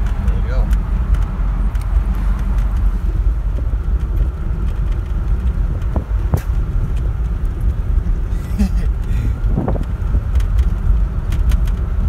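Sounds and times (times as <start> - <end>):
car cabin engine and tyre rumble: 0.0 - 12.0.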